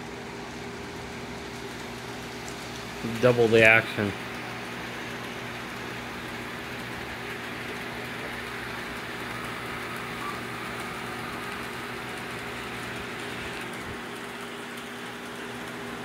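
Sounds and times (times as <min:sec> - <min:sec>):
model train motors whirring: 0:00.8 - 0:16.0.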